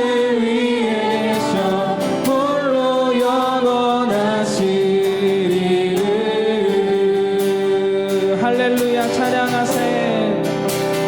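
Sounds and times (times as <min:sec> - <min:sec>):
group singing worship song: 0:00.0 - 0:11.0
instrumental accompaniment: 0:01.2 - 0:11.0.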